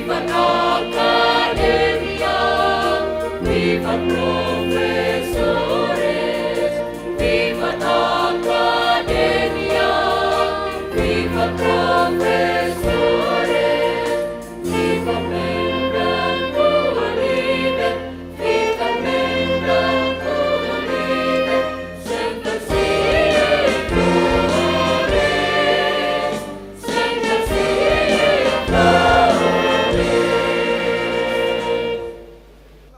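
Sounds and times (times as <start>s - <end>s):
choir singing: 0.0s - 32.5s
instrumental accompaniment: 0.0s - 32.9s.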